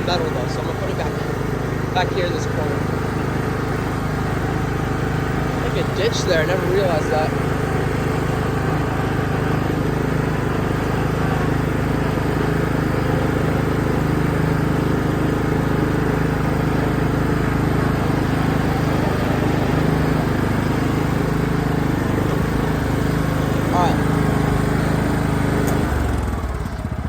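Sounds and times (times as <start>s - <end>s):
riding lawn mower engine: 0.0s - 27.0s.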